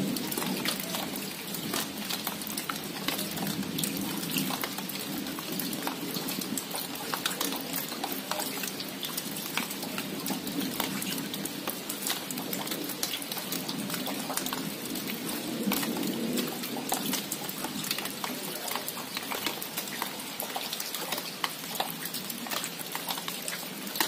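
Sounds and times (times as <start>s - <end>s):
raindrops pattering on leaves: 0.0s - 24.0s
rush of rainfall: 0.0s - 24.0s.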